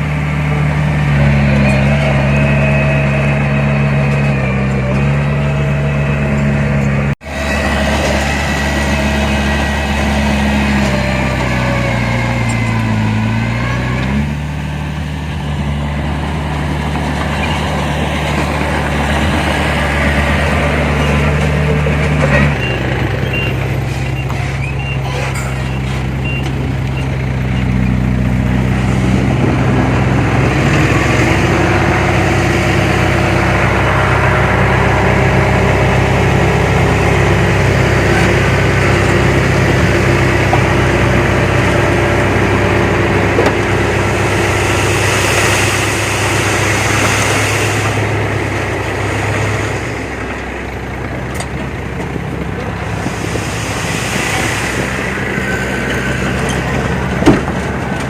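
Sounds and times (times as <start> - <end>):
heavy diesel engines under load: 0.0 - 58.0.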